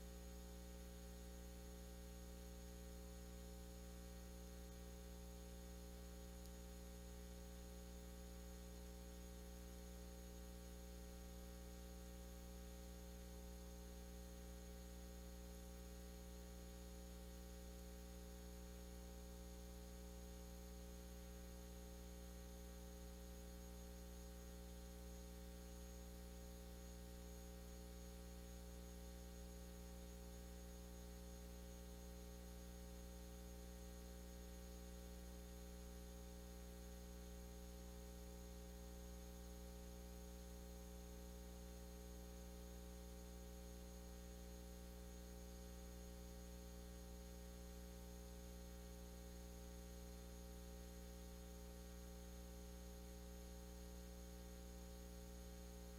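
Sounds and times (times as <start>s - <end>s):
faint electrical mains hum: 0.0s - 55.9s.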